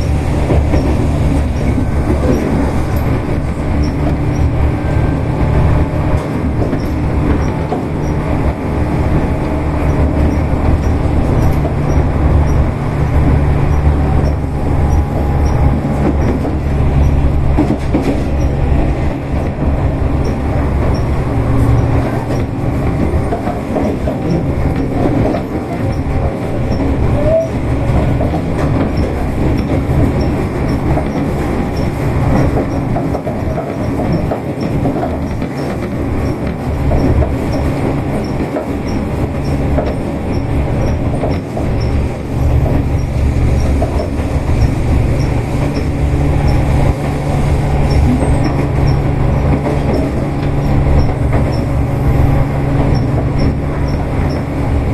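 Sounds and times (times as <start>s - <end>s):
electric train motor hum: 0.0s - 33.6s, 34.8s - 54.9s
train wheels rolling on rails: 0.0s - 54.9s.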